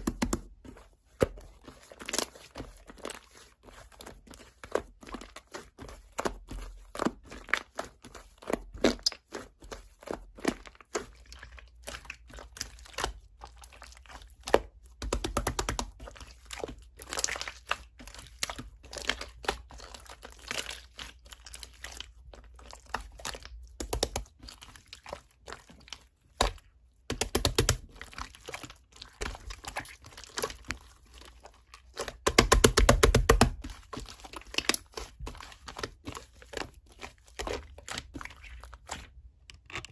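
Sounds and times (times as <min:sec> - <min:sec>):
slime squished by hand: 0:00.0 - 0:39.9.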